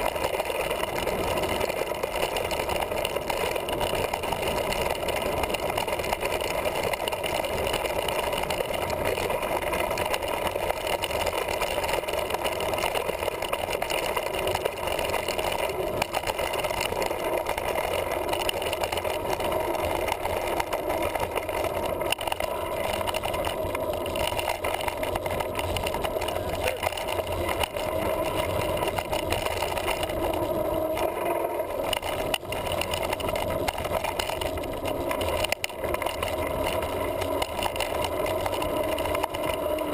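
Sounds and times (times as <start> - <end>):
bike rattling and clicking: 0.0 - 39.9
bike tyre noise: 0.0 - 39.9.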